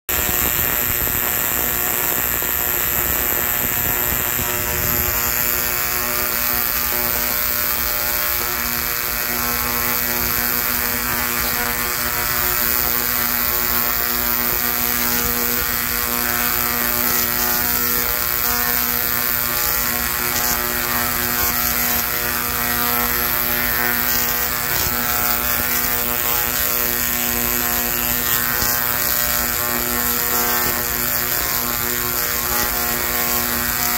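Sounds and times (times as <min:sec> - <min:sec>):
tesla coil buzzing: 0:00.1 - 0:33.9.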